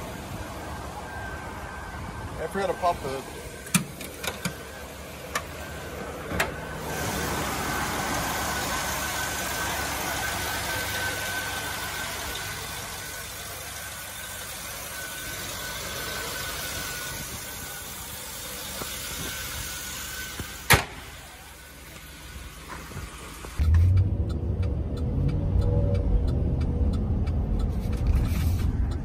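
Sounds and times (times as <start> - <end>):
thin steady whine: 0.0 - 29.0
truck engine idling: 0.0 - 29.0.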